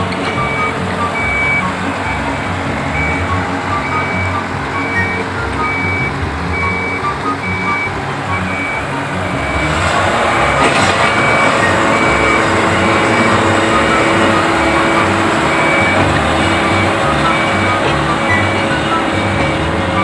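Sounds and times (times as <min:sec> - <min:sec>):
heavy diesel engine running: 0:00.0 - 0:20.0
repeating electronic beep: 0:00.3 - 0:20.0.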